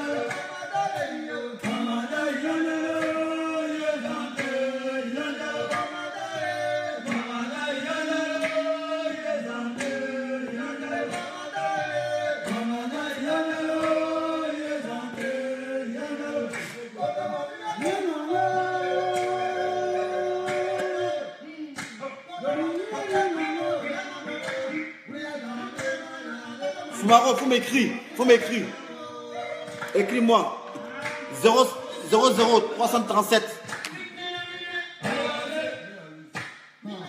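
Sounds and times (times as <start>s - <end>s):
group of men chanting: 0.0s - 37.0s.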